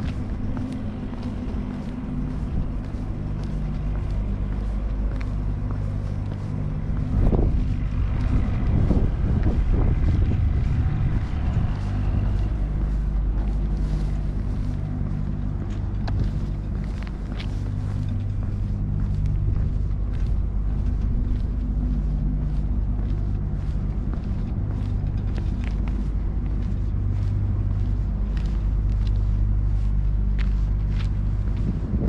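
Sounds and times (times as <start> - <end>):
footsteps on pavement: 0.0 - 32.0
low engine hum: 0.0 - 32.0.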